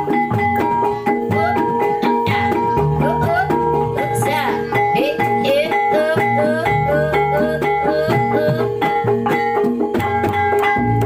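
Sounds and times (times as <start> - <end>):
melody of bending notes: 0.0 - 11.0.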